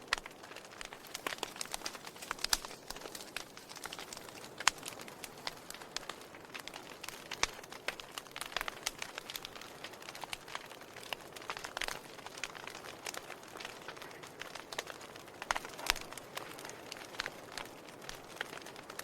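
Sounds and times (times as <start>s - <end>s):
firewood crackling: 0.0s - 19.0s.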